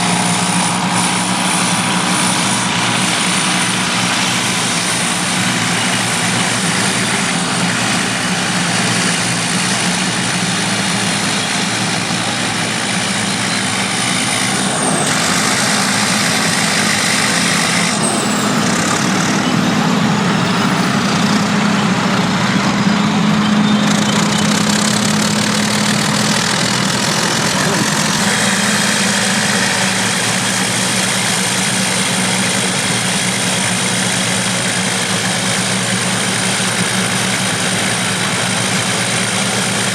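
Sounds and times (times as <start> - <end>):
bulldozer engines running: 0.0 - 39.9.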